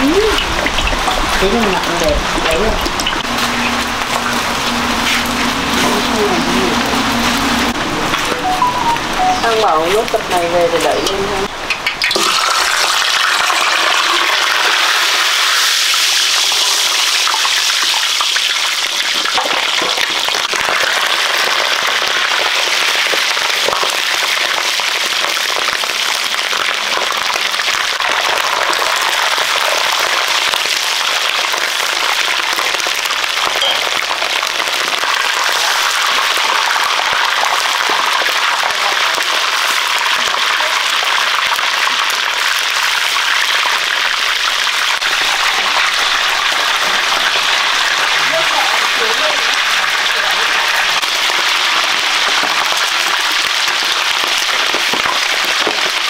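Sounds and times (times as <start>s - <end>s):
pork sizzling in oil: 0.0s - 56.0s.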